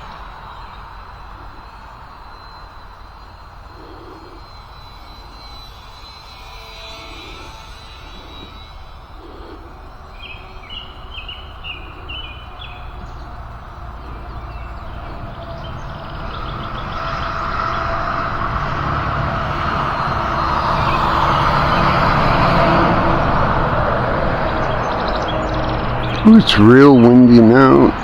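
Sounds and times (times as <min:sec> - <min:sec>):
model airplane motor whining: 0:00.0 - 0:26.6
birds chirping: 0:00.0 - 0:28.0
wind rumbling on microphone: 0:00.0 - 0:28.0.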